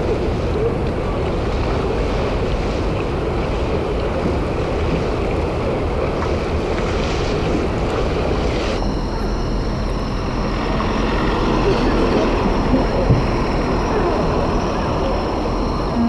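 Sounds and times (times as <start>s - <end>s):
low rumbling harbour noise: 0.0s - 16.0s
water: 0.0s - 16.0s
wind on microphone: 0.0s - 16.0s.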